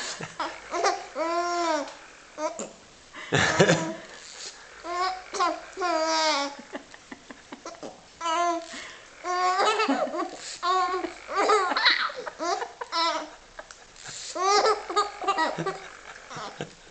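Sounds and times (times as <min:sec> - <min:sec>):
baby laughing: 0:00.0 - 0:02.8, 0:03.4 - 0:04.2, 0:04.8 - 0:16.9.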